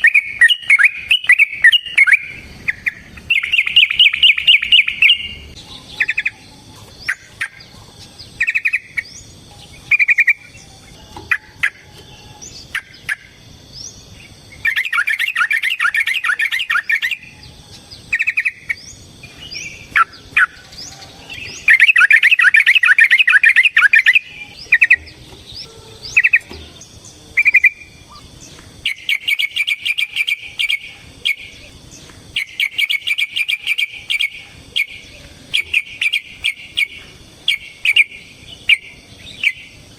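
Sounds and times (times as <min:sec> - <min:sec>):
faint high bird chirps: 0:00.0 - 0:39.9.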